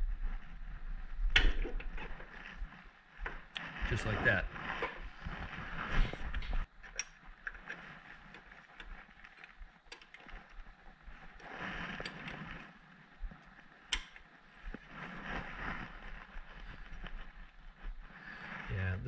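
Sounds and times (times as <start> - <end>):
belt rubbing and scraping: 0.1 - 19.0.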